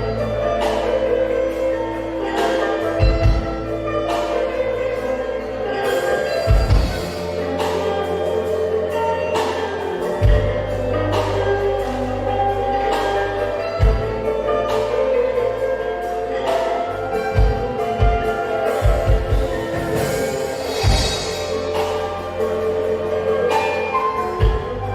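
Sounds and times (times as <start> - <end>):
electric bass notes: 0.0 - 24.9.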